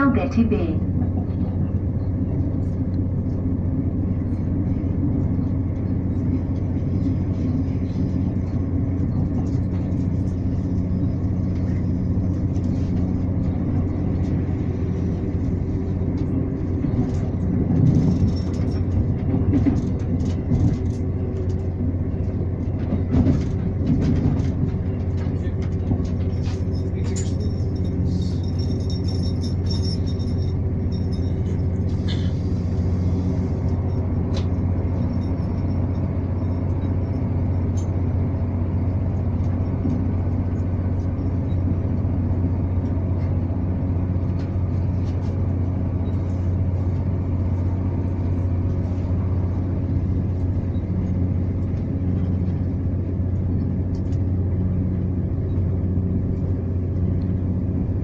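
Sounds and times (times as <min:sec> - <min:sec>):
train diesel engine hum: 0:00.0 - 0:58.0
train wheels on rails: 0:00.9 - 0:57.5.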